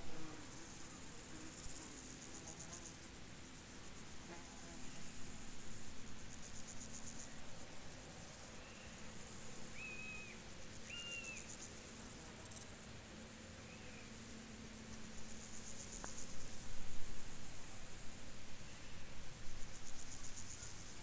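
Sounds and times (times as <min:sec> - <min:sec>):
crickets chirping: 0:00.1 - 0:21.0.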